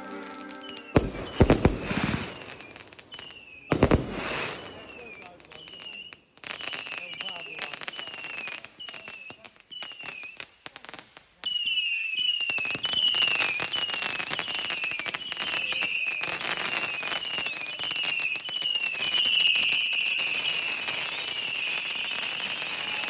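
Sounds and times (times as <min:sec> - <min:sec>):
falling whistle tone: 0:00.0 - 0:10.4, 0:11.5 - 0:23.0
fireworks crackling: 0:00.0 - 0:23.0.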